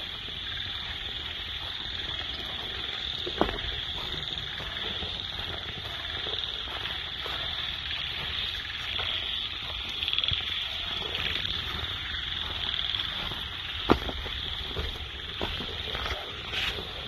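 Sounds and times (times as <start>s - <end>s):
chorus of calling forest animals: 0.0s - 17.0s.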